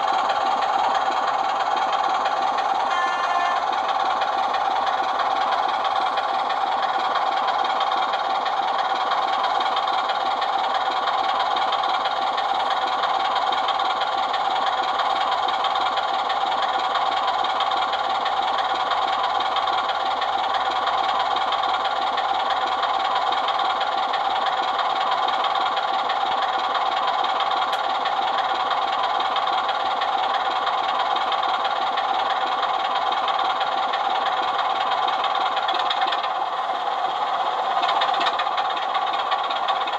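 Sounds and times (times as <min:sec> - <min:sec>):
diesel engine sound through small speaker: 0:00.0 - 0:39.9.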